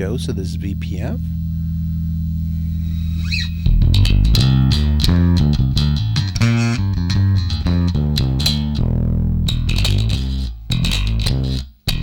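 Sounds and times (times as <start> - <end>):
electric bass plucked notes: 0.0 - 12.0.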